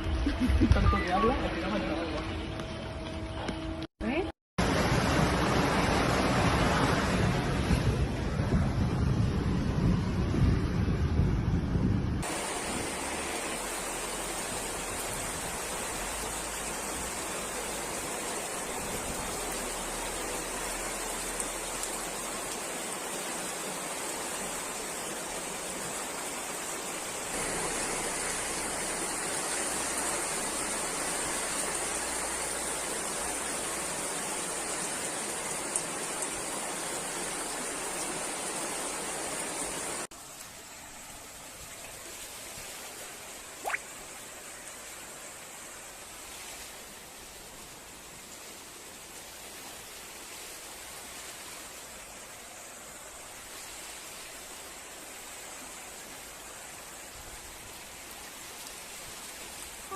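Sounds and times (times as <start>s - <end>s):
floodwater rushing: 4.6s - 9.7s, 12.2s - 59.9s
heavy rain: 4.6s - 59.9s.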